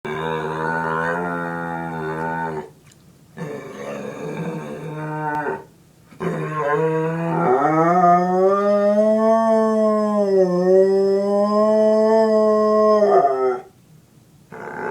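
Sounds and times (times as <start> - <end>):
dog howling: 0.1 - 2.7, 3.4 - 13.7.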